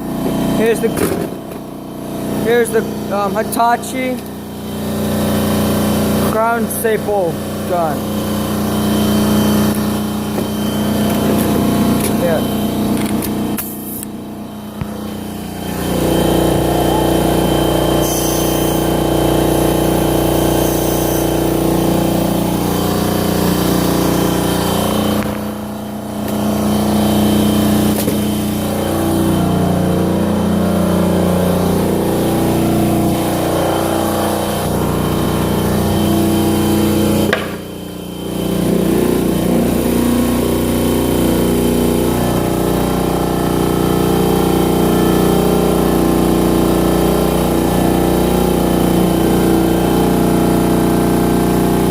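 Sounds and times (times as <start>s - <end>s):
air compressor running: 0.0s - 51.9s.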